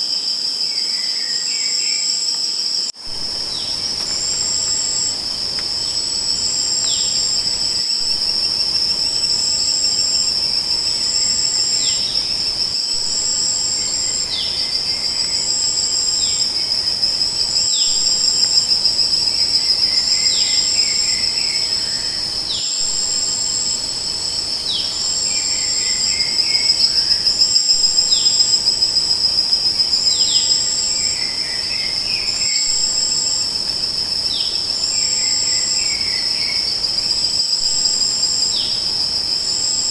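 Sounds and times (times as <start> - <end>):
crickets trilling: 0.0 - 39.9
insect chirping in pulses: 0.0 - 39.9.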